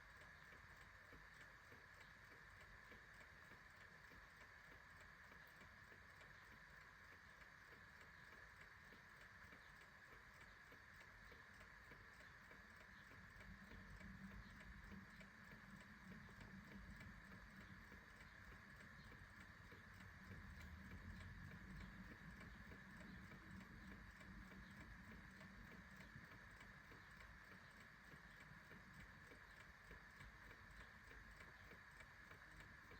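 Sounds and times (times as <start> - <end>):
clock ticking: 0.0 - 32.9.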